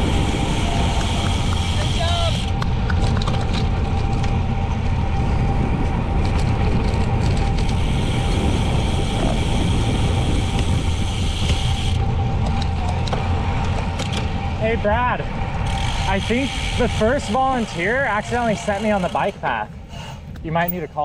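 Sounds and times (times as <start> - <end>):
wind rumble on microphone: 0.0 - 20.9.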